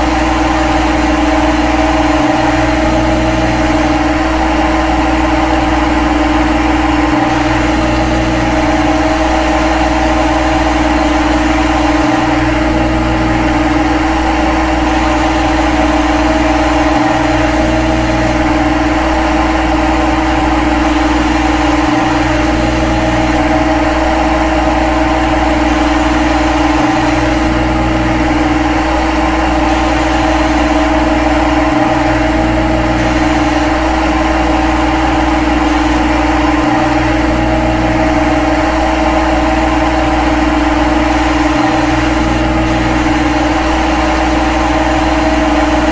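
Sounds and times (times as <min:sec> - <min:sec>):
lathe machining hum: 0:00.0 - 0:45.9.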